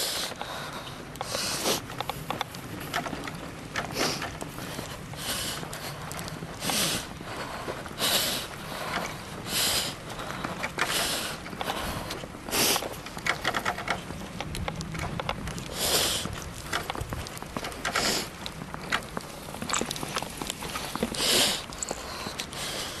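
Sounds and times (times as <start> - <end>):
footsteps on snow: 0.0 - 23.0
runner breathing hard: 0.0 - 23.0.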